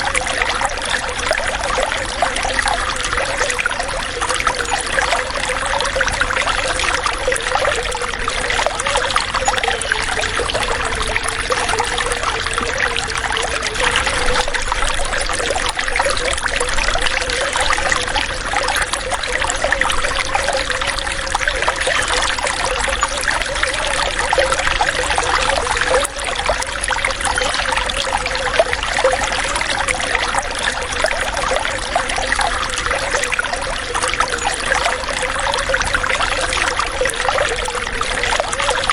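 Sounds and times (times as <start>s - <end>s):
water running and trickling: 0.0s - 38.9s.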